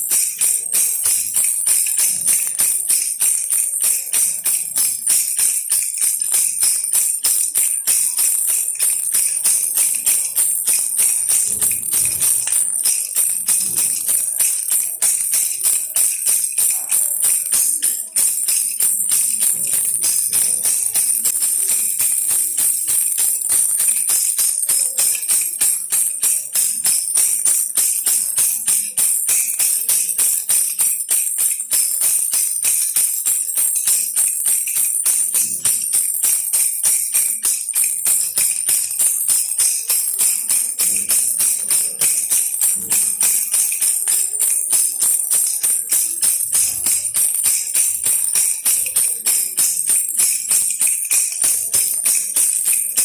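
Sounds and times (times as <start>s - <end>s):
baby rattle jingling: 0.0s - 53.0s.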